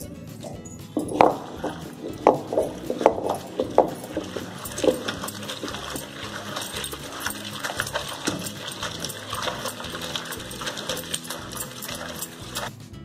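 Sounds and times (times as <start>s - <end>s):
stone pestle grinding and crunching: 0.5s - 12.7s.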